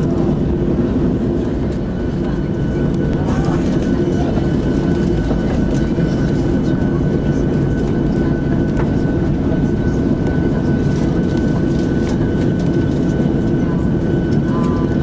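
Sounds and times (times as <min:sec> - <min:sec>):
idling jet engines rumble: 0:00.0 - 0:15.0.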